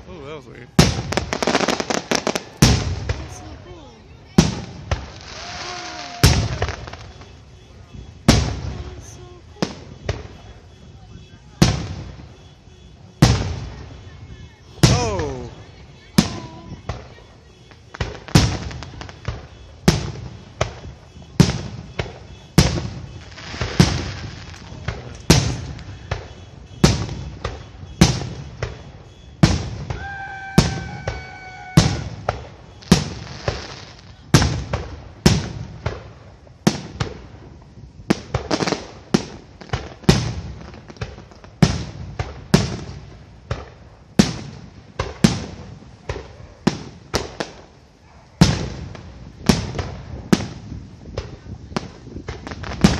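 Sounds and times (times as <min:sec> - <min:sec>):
fireworks bursting with sharp bangs: 0:00.0 - 0:52.9.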